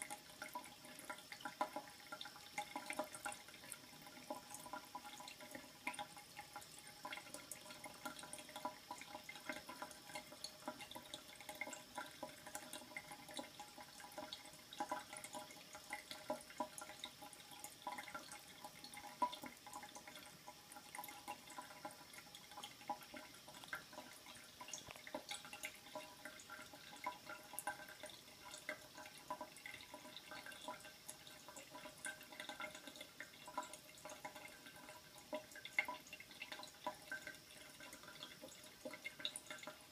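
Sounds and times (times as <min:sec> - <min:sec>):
small drips and splashes: 0:00.0 - 0:39.9
water running into a sink: 0:00.0 - 0:39.9.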